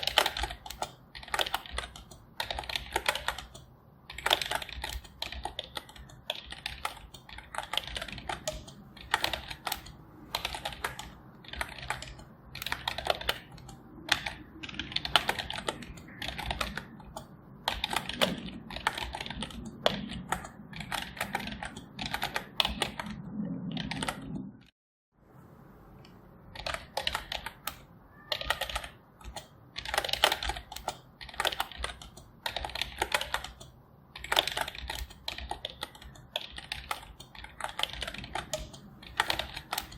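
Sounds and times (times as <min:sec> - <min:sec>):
computer keyboard typing: 0:00.0 - 0:24.7, 0:26.5 - 0:39.9.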